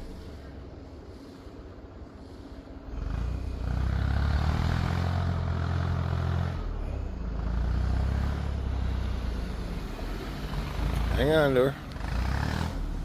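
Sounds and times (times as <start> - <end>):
vehicle engine under load: 0.0 - 13.0.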